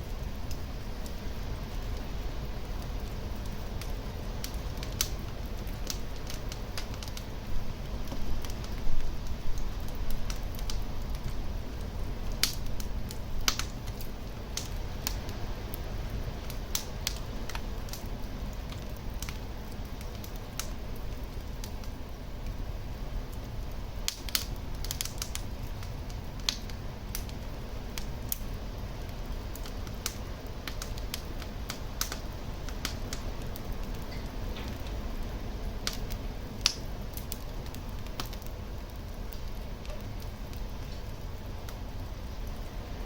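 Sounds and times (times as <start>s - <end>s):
fire crackling and popping: 0.0s - 43.0s
fire flames rumbling: 0.0s - 43.0s.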